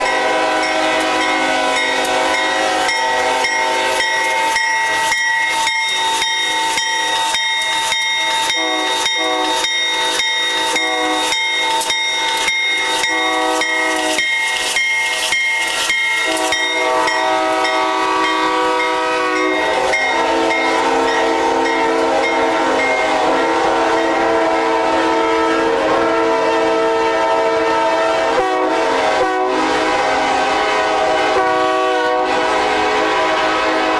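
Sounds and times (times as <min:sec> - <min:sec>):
locomotive air horns: 0:00.0 - 0:06.8, 0:08.2 - 0:14.7, 0:15.8 - 0:33.9.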